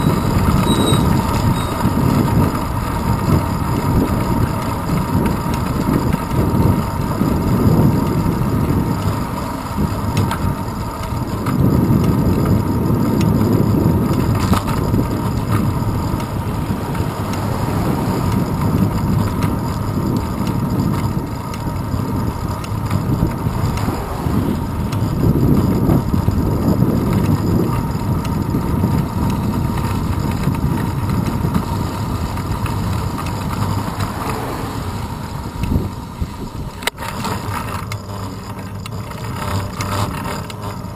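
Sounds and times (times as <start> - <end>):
road rumble: 0.0 - 40.9
wind: 0.0 - 40.9.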